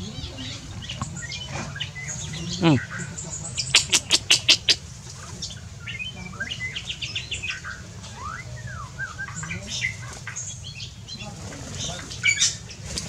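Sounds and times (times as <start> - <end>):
sharp loud bird notes: 0.0 - 12.8
birds chirping: 0.0 - 13.0.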